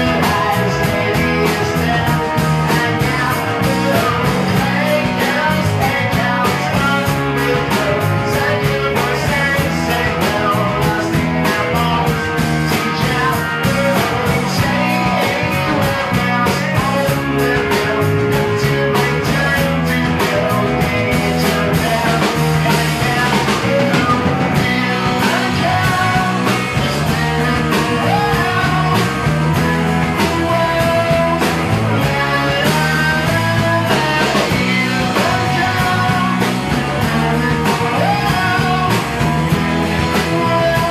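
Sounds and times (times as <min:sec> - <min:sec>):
bass guitar: 0:00.0 - 0:40.9
drum kit beat: 0:00.0 - 0:40.9
electric guitars: 0:00.0 - 0:40.9
lead singer singing: 0:00.0 - 0:40.9.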